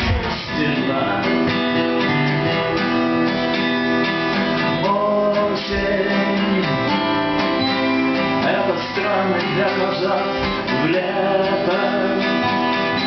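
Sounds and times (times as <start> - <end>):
acoustic guitars strummed and picked: 0.0 - 13.0.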